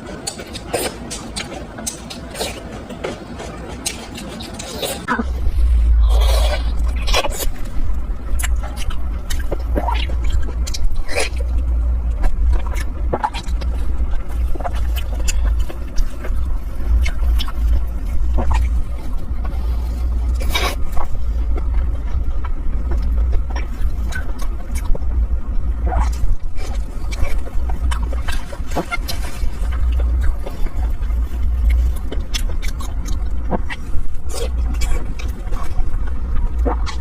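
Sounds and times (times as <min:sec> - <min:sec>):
close-miked eating sounds: 0:00.0 - 0:37.0
steady low rumble: 0:00.0 - 0:37.0.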